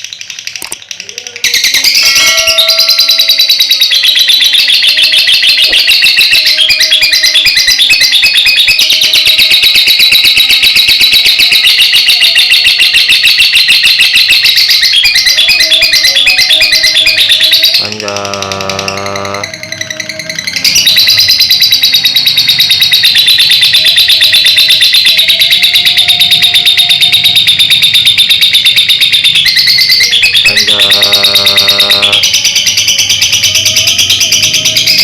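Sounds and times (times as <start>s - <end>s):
lovebird chattering trill: 0.0s - 35.0s.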